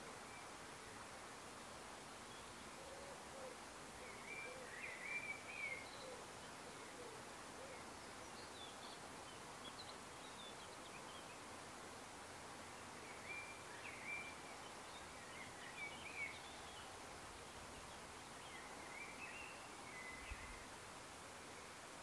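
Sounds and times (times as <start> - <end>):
small birds chirping: 0.0 - 11.7, 12.6 - 22.0
soft steady hiss: 0.0 - 22.0.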